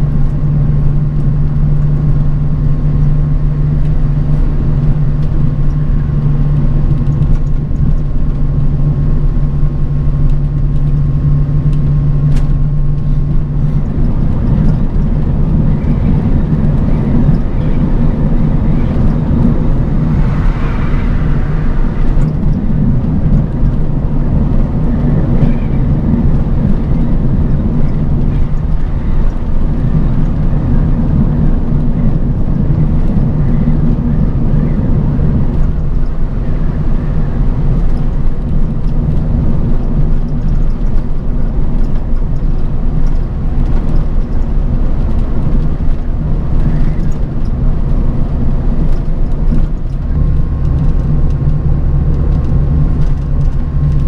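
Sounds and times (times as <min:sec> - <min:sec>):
bus engine drone: 0:00.0 - 0:54.0
faint whine: 0:00.0 - 0:54.0
road and tyre noise: 0:00.0 - 0:54.0.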